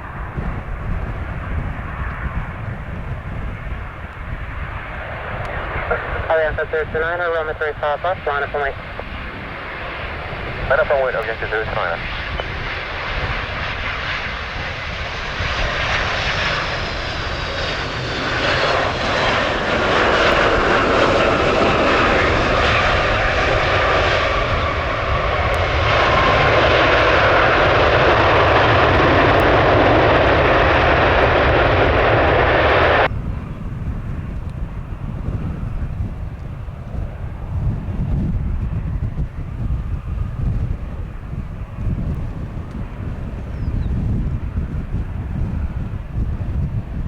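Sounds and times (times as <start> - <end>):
jet airliner engines: 0.0 - 47.0.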